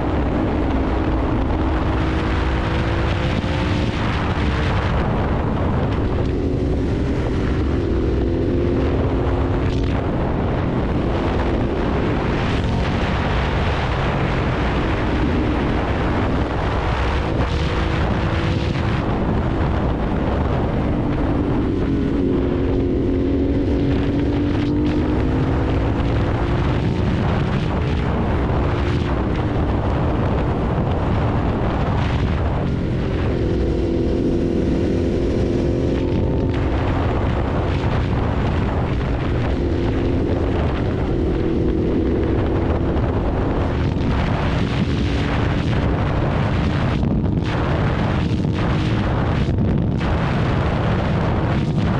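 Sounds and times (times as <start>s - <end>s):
motorcycle engine running: 0.0s - 51.9s
rushing wind noise: 0.0s - 51.9s.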